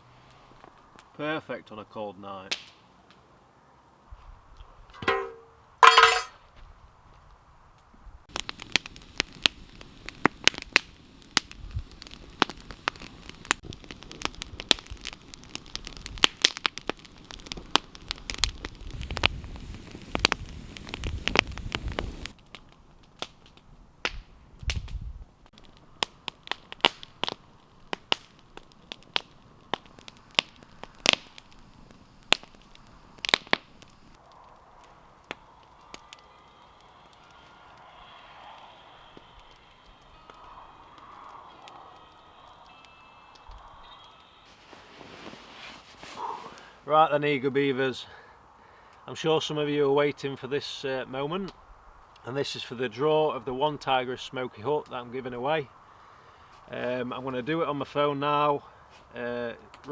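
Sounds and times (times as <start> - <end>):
campfire crackling and popping: 0.0 - 1.4, 2.4 - 3.3, 4.4 - 6.3, 7.7 - 59.9.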